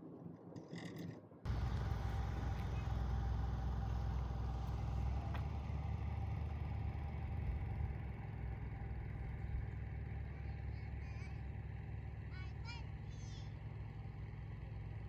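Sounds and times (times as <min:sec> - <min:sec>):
car road and engine rumble: 0:01.4 - 0:15.0.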